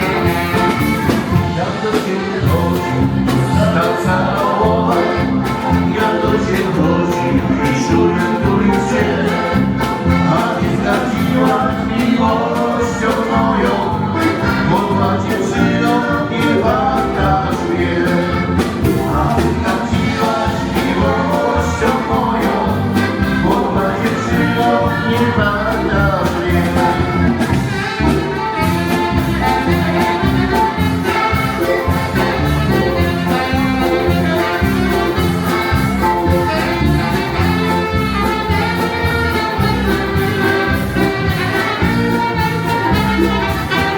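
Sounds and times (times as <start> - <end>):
folk dance band playing: 0.0 - 43.9
person singing: 0.0 - 43.9.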